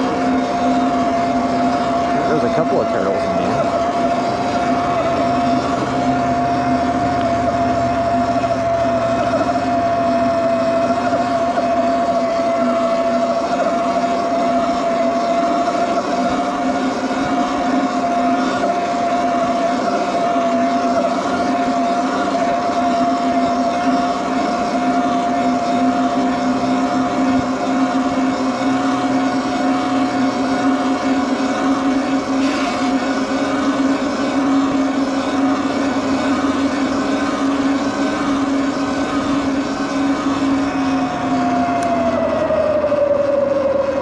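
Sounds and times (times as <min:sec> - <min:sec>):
electric bike motor running: 0:00.0 - 0:44.0.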